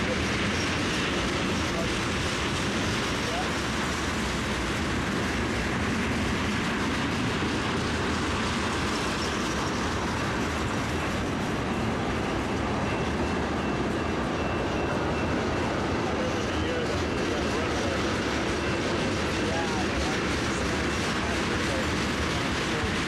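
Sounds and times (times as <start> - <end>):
train cars rumbling on rails: 0.0 - 23.0.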